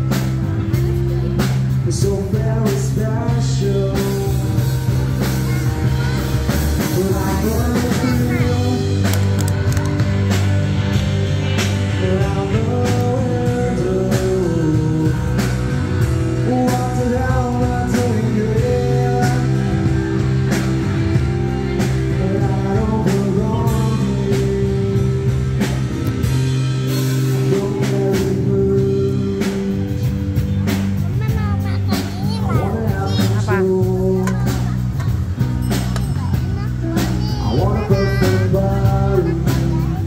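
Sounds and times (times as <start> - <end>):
person singing: 0.0 - 10.8, 11.4 - 30.7, 32.2 - 40.0
rock band playing live: 0.0 - 40.0
steady drum beat: 0.0 - 40.0.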